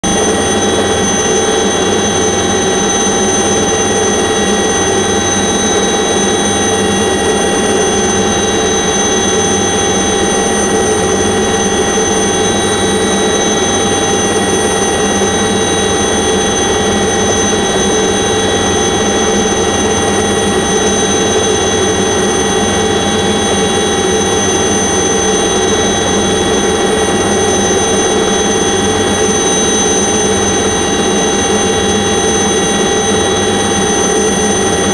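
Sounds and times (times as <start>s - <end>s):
light aircraft engine droning: 0.0s - 34.9s.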